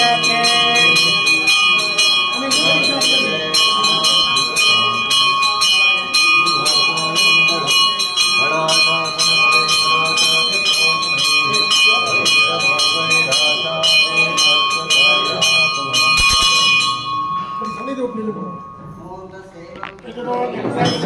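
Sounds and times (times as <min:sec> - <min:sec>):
bell rung rapidly: 0:00.0 - 0:19.3
voices: 0:00.0 - 0:21.0.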